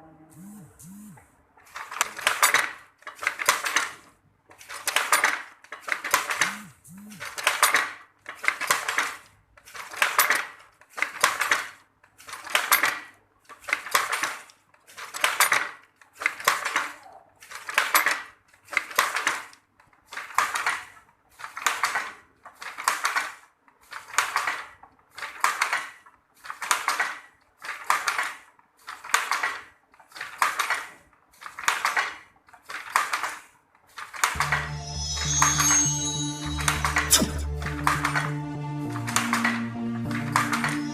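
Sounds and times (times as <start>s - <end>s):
wooden loom clattering: 1.6s - 34.5s.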